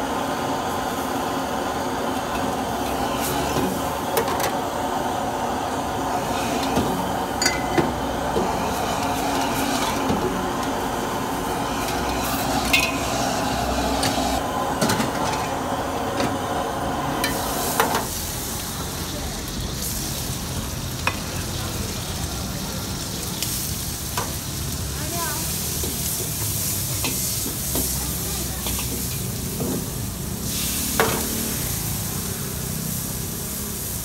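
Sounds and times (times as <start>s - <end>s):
gas flame roaring: 0.0s - 34.0s.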